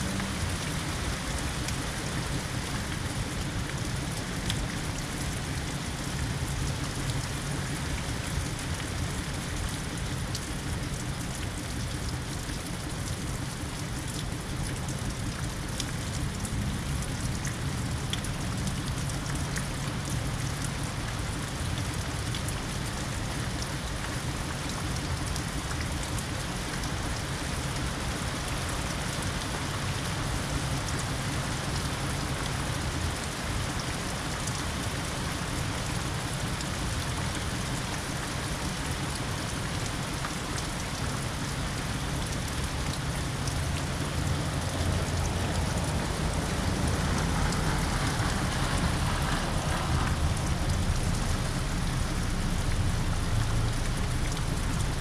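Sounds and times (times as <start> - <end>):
car tyres swishing on wet road: 0.0 - 55.0
steady rain falling: 0.0 - 55.0.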